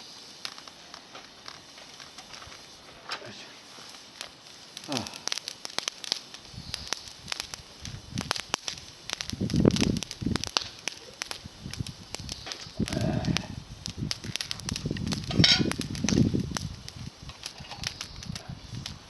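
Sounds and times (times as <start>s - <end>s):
twig campfire crackling and popping: 0.0s - 19.0s.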